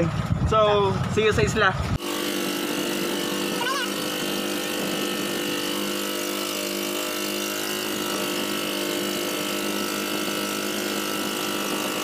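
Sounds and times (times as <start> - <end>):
boat engine running: 1.8 - 12.0.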